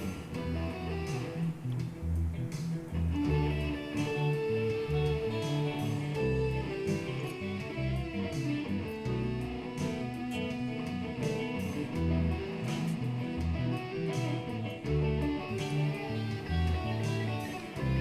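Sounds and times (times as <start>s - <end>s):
guitar-led background music: 0.0s - 18.0s.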